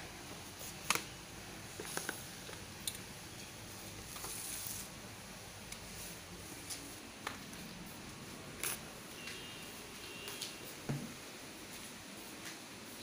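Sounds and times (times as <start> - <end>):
soft rubbing hiss: 0.1 - 13.0.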